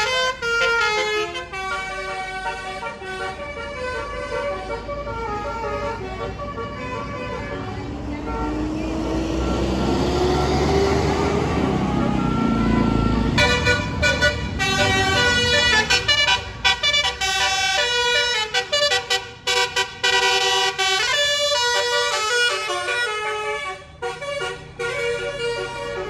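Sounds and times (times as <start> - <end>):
multi-tone air horn melody: 0.0 - 9.0, 13.4 - 26.0
low bus engine rumble: 0.0 - 26.0.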